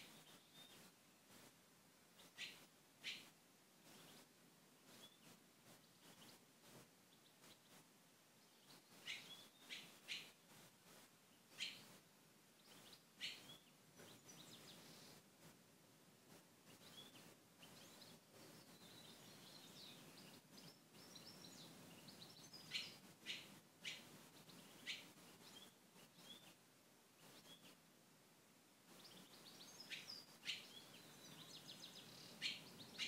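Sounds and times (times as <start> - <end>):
small birds chirping: 0.0 - 1.5, 2.1 - 12.0, 12.6 - 15.6, 16.3 - 27.9, 28.9 - 33.0.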